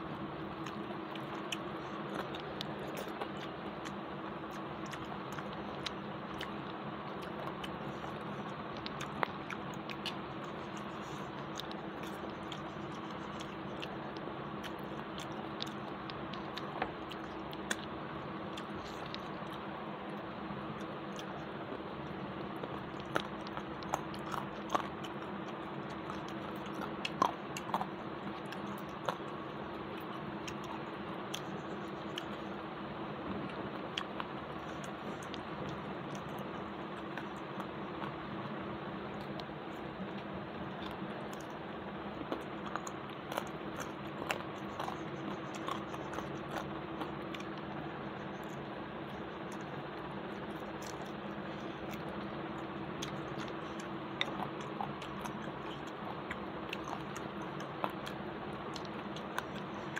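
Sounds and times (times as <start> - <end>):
person chewing: 0.0 - 59.9
steady background hum: 0.0 - 59.9.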